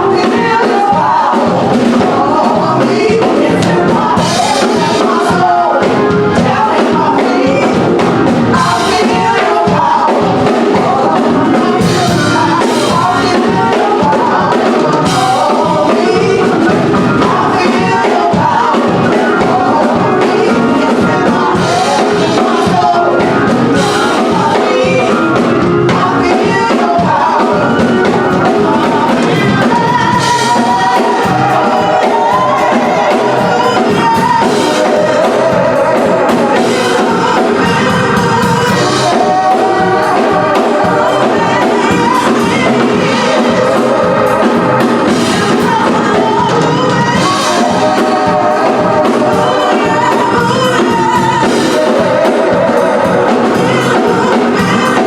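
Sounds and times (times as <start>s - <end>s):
drums: 0.0s - 55.0s
gospel singing over a band: 0.0s - 55.0s.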